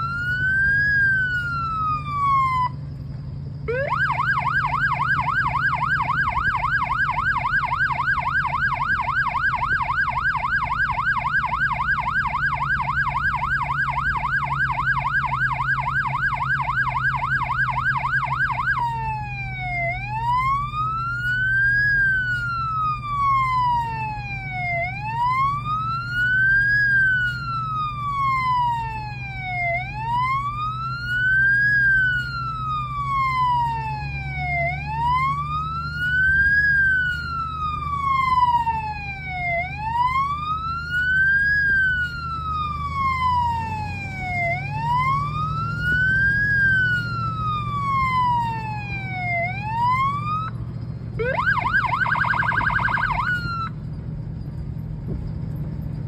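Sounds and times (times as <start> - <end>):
fire truck siren wailing: 0.0 - 56.0.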